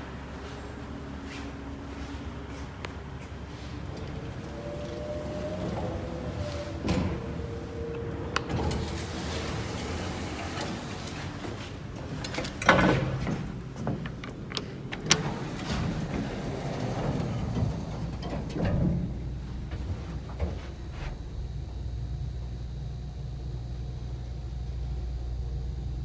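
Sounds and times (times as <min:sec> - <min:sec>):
sliding elevator doors rumbling: 0:00.0 - 0:25.1.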